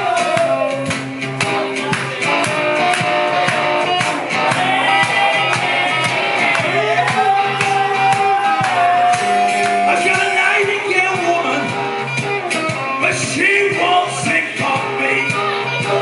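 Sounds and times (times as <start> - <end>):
blues-rock band playing: 0.0 - 16.0
drums keeping a steady beat: 0.0 - 16.0.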